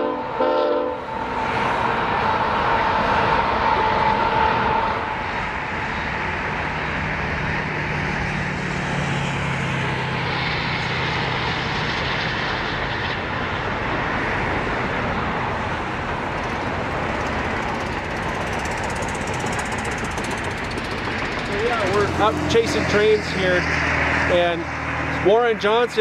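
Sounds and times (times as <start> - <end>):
diesel locomotive engine drone: 0.0 - 26.0
train cars rumbling on rails: 0.0 - 26.0.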